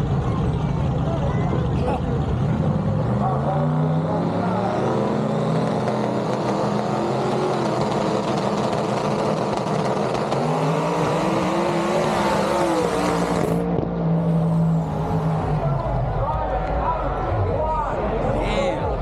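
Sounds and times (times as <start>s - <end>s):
loud racing engines: 0.0s - 19.0s.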